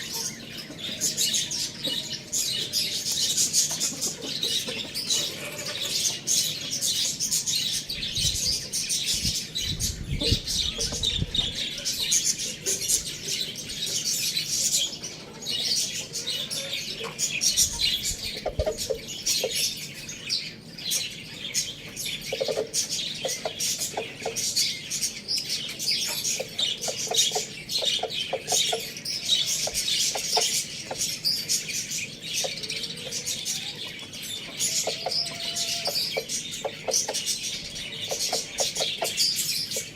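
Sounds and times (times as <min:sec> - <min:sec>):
chickens clucking: 0:00.0 - 0:39.9
small birds chirping: 0:00.0 - 0:39.9.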